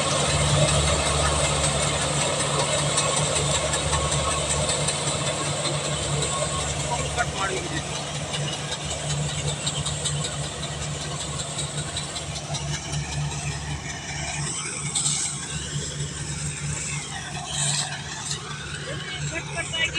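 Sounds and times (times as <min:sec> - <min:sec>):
combine harvester engine humming: 0:00.0 - 0:19.9.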